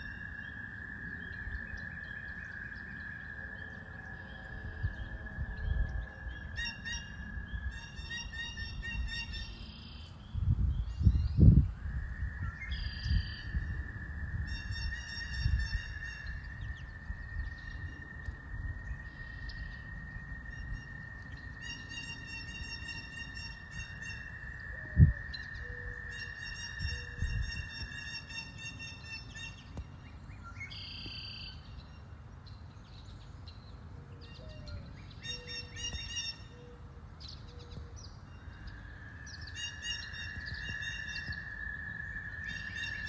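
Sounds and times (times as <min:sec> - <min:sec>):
birds singing and chirping: 0:00.0 - 0:43.0.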